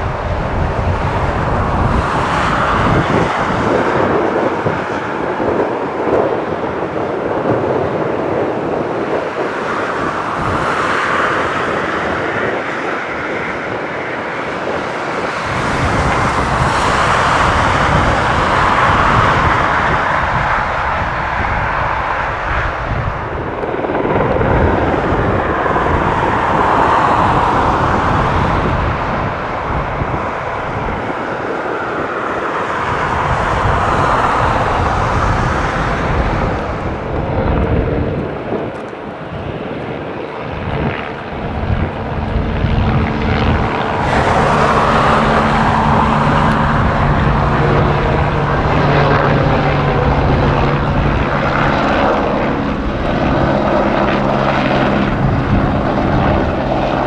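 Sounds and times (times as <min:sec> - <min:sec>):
helicopter turbine and rotor: 0:00.0 - 0:57.0.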